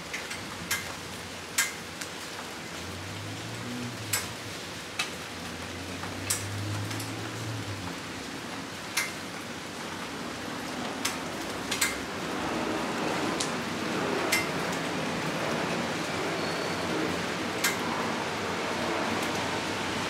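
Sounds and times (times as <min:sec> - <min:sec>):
steady rain hissing: 0:00.0 - 0:20.0.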